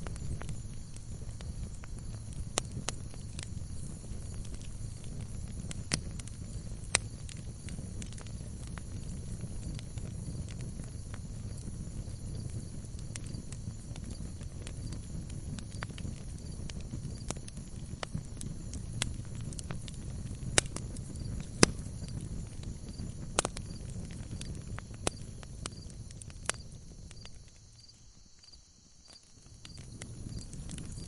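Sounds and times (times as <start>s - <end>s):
fire pops and snaps: 0.0s - 31.0s
log fire rumbling: 0.0s - 31.0s.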